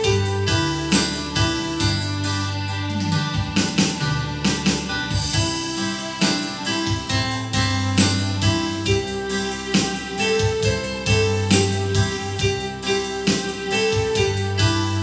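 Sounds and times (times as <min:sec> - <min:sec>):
electronic keyboard playing a song: 0:00.0 - 0:15.0.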